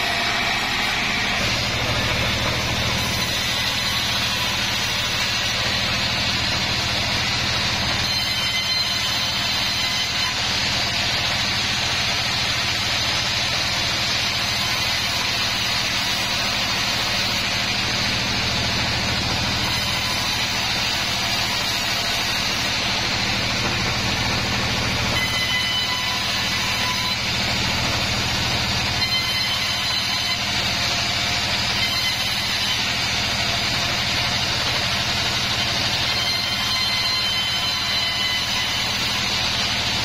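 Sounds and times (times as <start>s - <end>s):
low motor hum: 0.0s - 8.4s, 9.6s - 40.0s
band saw blade ripping planks: 0.0s - 40.0s.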